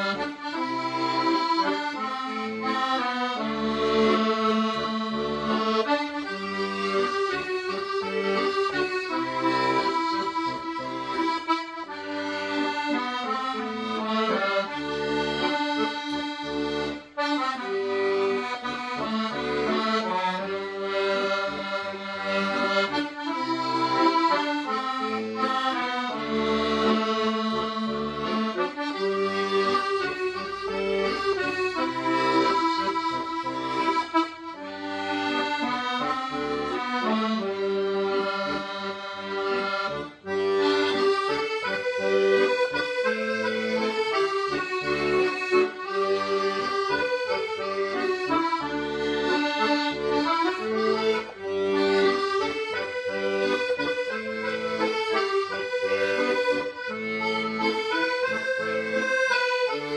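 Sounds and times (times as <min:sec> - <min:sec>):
accordion slow melody: 0:00.0 - 0:59.9.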